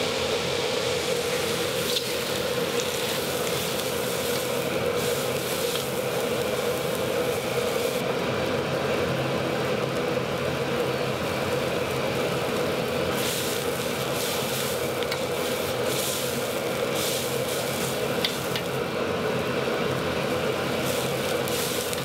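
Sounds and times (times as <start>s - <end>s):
food sizzling in a wok: 0.0s - 22.0s
kitchen equipment humming: 0.0s - 22.0s.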